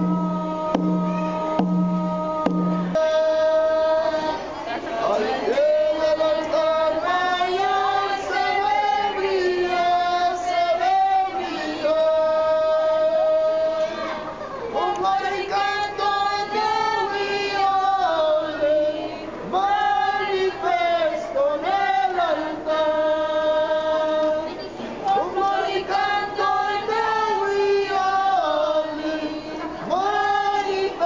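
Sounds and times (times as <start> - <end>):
group of voices singing: 0.0 - 31.0.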